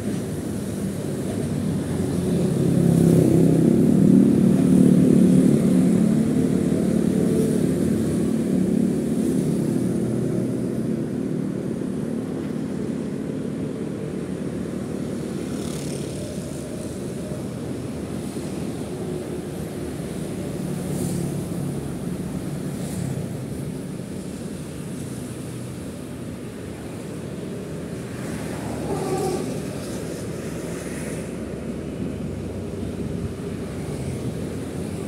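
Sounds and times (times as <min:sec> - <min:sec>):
road noise: 0:00.0 - 0:35.0.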